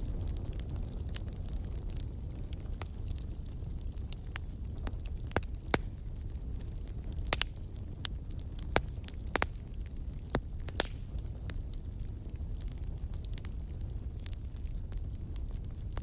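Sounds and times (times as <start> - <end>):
fire popping: 0.0 - 16.0
low rumble of flames: 0.0 - 16.0.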